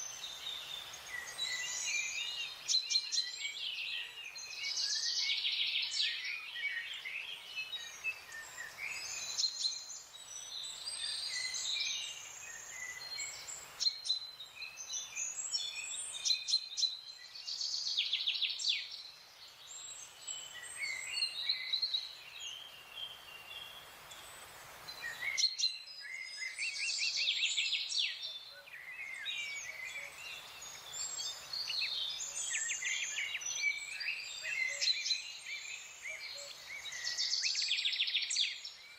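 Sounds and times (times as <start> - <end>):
songbirds chirping and trilling: 0.0 - 38.9
steady forest hiss: 0.0 - 38.9.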